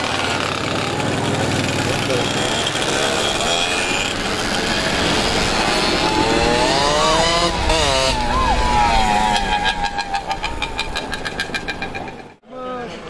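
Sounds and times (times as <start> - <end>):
engine revving: 0.0 - 12.4
motorcycle engines passing: 0.0 - 12.4.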